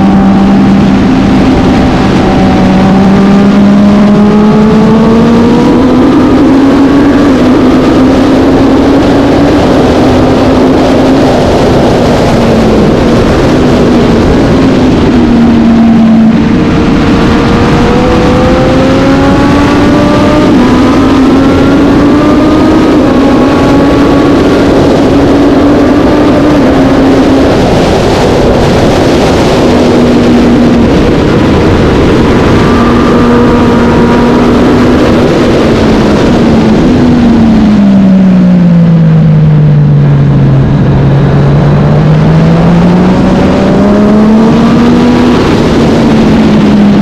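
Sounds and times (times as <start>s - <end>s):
heavy rushing noise: 0.0s - 47.0s
motorcycle engine at high revs: 0.0s - 47.0s.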